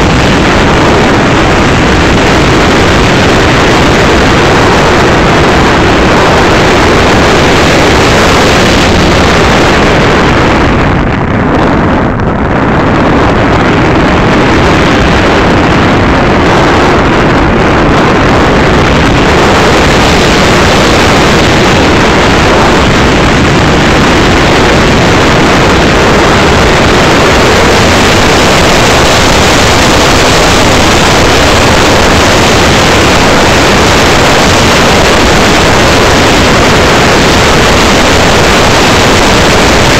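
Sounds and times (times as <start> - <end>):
model jet airflow and motor: 0.0 - 39.9.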